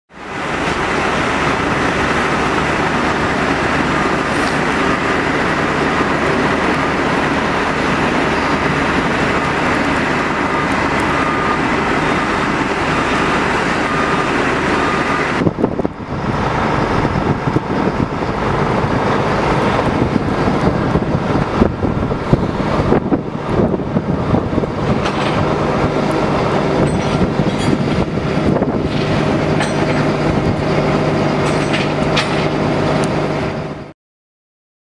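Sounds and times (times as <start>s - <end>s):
vehicle engines running: 0.1s - 33.9s.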